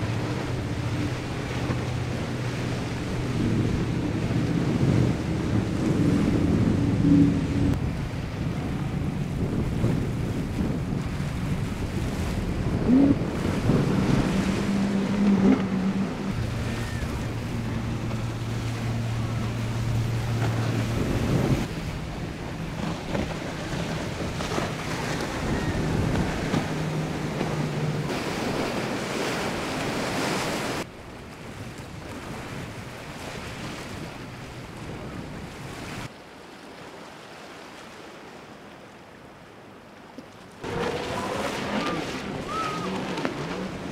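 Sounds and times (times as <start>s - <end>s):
powerboat engines running: 0.0s - 36.1s, 38.6s - 43.9s
wind on microphone: 0.0s - 36.1s
spray and waves: 0.0s - 43.9s.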